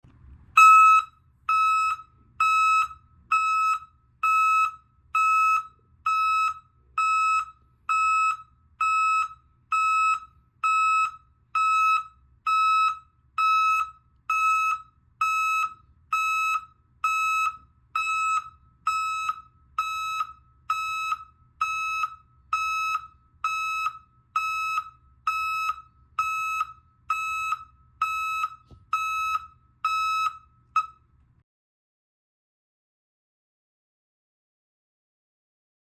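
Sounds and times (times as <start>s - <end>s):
vehicle reversing alarm beeping: 0.5s - 31.2s.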